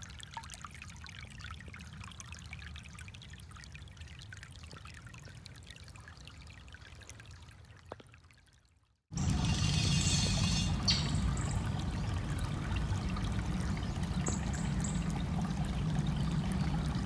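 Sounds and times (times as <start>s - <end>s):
creek water trickling over rocks: 0.0s - 17.0s.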